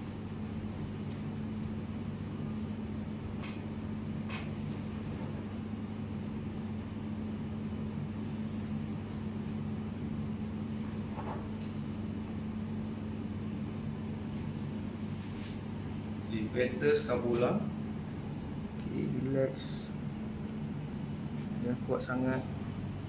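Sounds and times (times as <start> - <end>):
air conditioner hum: 0.0 - 23.0.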